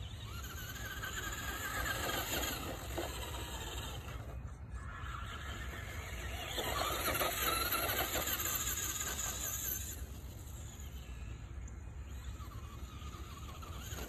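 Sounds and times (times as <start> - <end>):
electric toy truck motor whining: 0.0 - 14.0.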